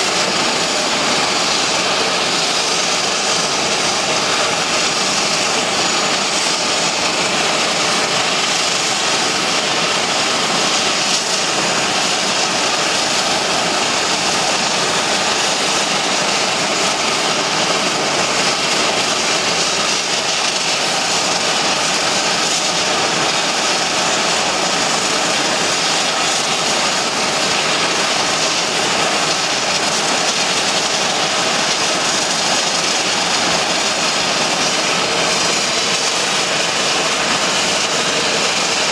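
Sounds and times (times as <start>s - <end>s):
turboprop engines hissing and whining: 0.0s - 38.9s.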